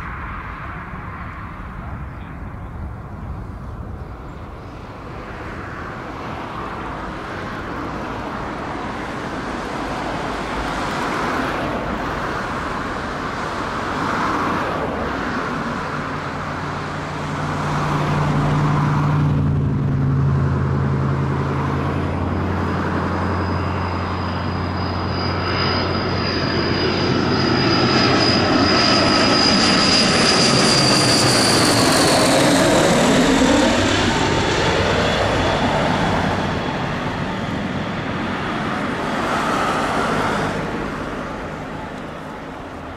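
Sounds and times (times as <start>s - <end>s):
high turbine whine: 0.0s - 42.9s
propeller drone: 0.0s - 42.9s.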